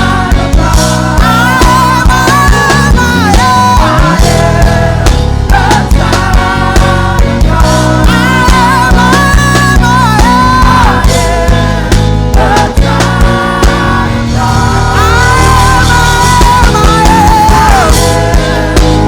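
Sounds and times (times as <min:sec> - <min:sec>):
live worship band music: 0:00.0 - 0:19.0.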